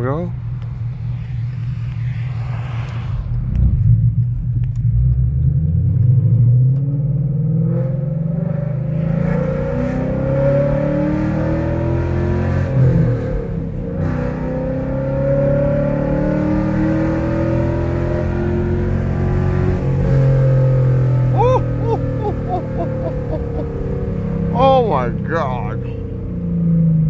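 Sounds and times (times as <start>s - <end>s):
car engine accelerating hard: 0.3s - 27.0s.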